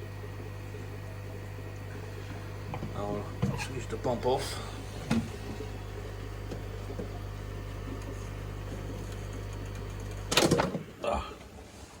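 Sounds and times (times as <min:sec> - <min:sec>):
aquarium pump humming: 0:00.0 - 0:12.0.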